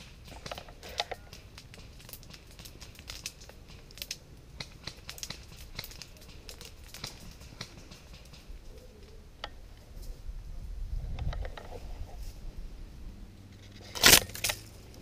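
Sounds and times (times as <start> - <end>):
rustling and crackling: 0.0 - 12.8, 13.4 - 15.0.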